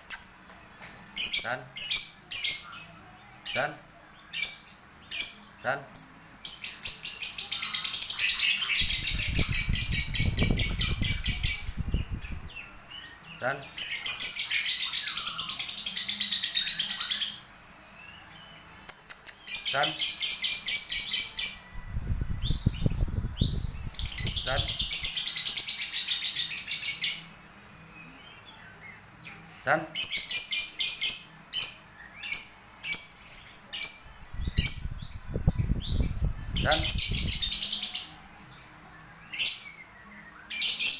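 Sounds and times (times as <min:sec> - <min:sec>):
lovebird chirping: 0:00.0 - 0:40.9.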